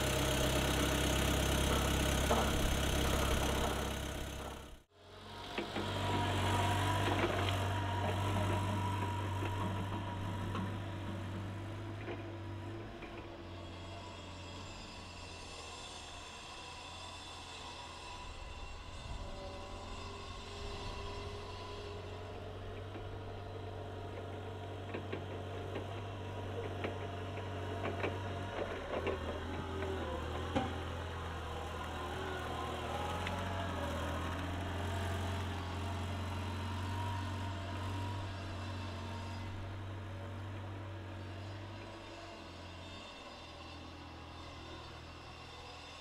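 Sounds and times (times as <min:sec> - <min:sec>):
forklift engine running: 0:00.0 - 0:14.0, 0:17.8 - 0:43.0.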